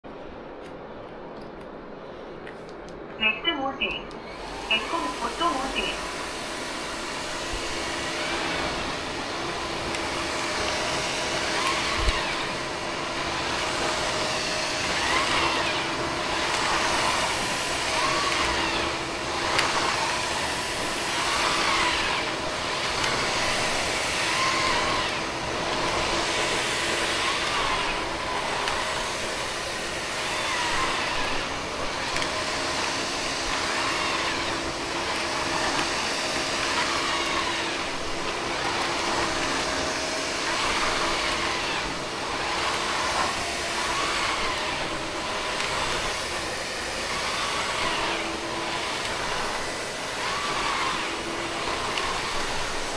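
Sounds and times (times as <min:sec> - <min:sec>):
vacuum mop motor hum: 0:04.2 - 0:52.9.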